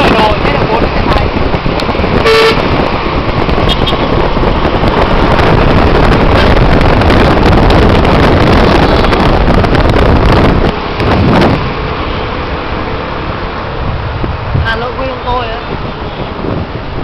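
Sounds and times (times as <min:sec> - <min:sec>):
road and vehicle noise: 0:00.0 - 0:17.0
wind buffeting microphone: 0:00.0 - 0:17.0.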